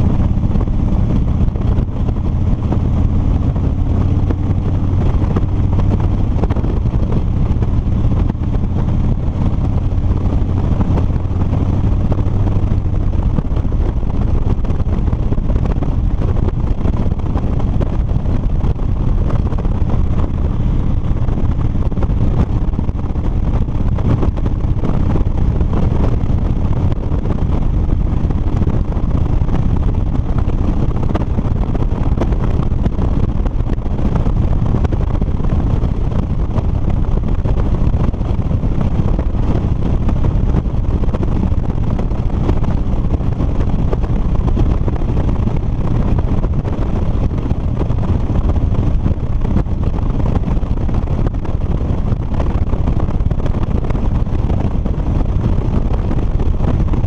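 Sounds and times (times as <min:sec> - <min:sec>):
motorcycle engine cruising: 0:00.0 - 0:57.0
wind rush over microphone: 0:00.0 - 0:57.0.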